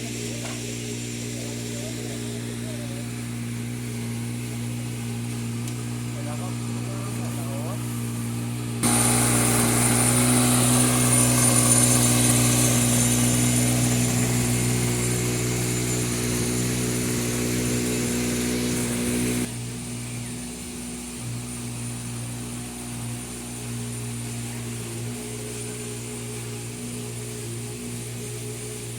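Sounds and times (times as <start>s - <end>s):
engine running: 0.0s - 28.9s
hiss: 0.0s - 28.9s.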